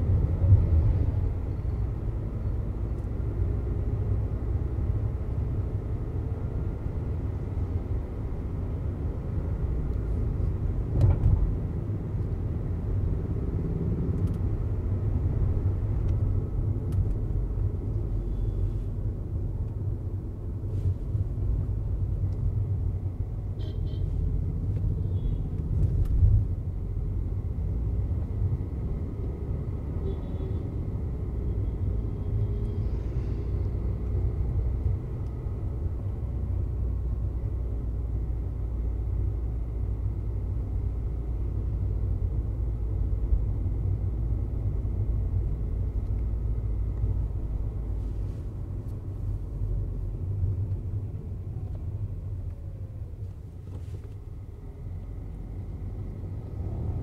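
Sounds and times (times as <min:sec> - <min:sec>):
in-cabin engine and tyre rumble: 0:00.0 - 0:57.0.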